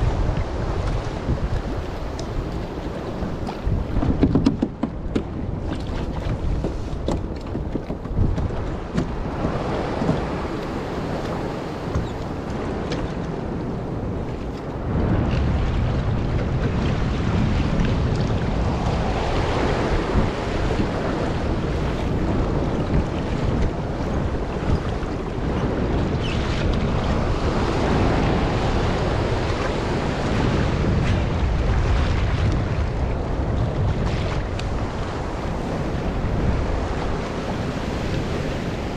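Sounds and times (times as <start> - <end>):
choppy sea waves: 0.0 - 38.9
wind buffeting microphone: 0.0 - 38.9.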